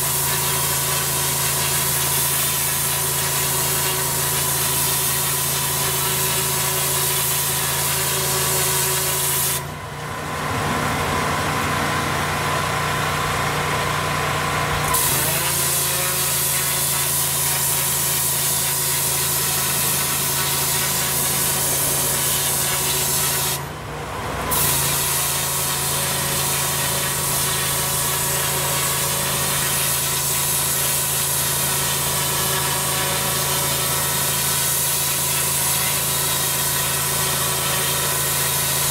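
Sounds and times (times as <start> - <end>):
pressure washer water jet hissing: 0.0 - 9.7, 14.8 - 23.7, 24.5 - 38.9
pressure washer machine hum: 0.0 - 38.9.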